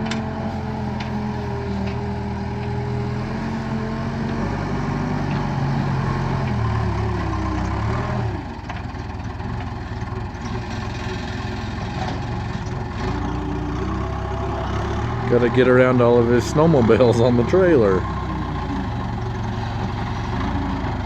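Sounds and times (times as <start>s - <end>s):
backhoe diesel engine running: 0.0s - 21.0s.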